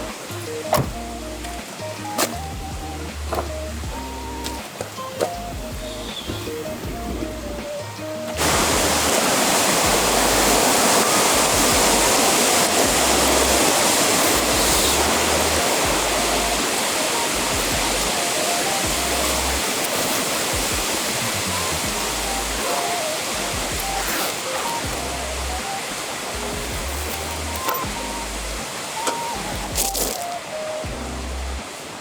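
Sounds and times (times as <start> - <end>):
background music: 0.0 - 32.0
steady rushing noise: 0.0 - 32.0.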